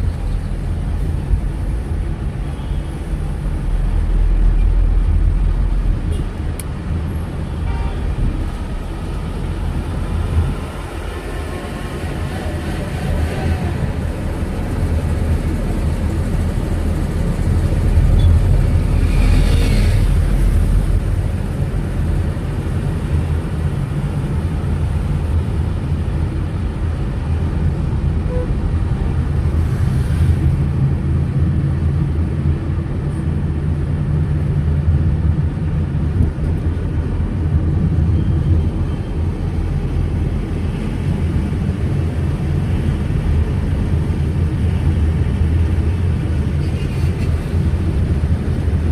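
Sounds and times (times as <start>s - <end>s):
road traffic rumble: 0.0s - 48.9s.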